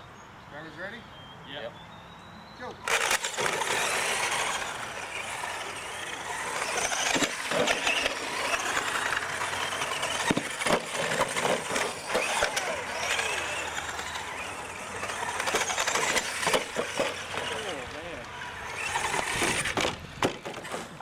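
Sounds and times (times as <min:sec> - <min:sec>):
toy truck motors whining: 0:02.8 - 0:21.0
tyres scrabbling on dirt: 0:02.9 - 0:21.0.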